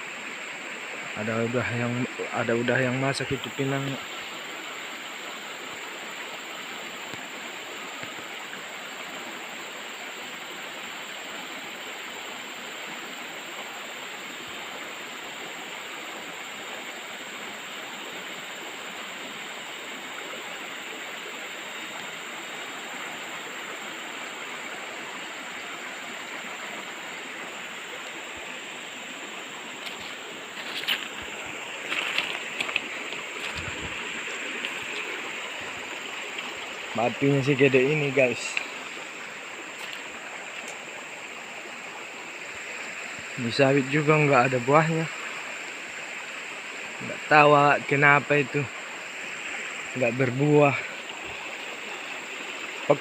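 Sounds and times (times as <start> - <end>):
river water flowing over rocks: 0.0 - 53.0.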